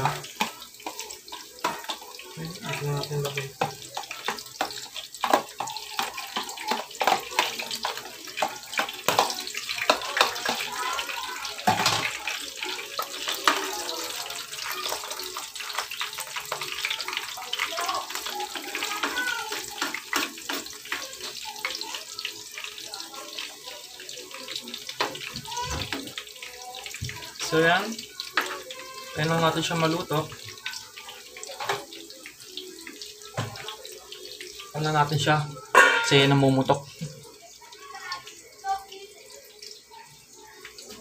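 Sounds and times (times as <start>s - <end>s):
fritters sizzling in hot oil: 0.0s - 41.0s
oil crackling and popping: 0.0s - 41.0s.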